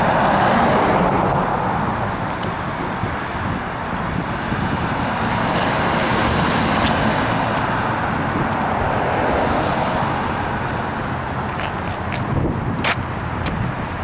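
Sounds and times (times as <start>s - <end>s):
cars driving by: 0.0s - 14.0s.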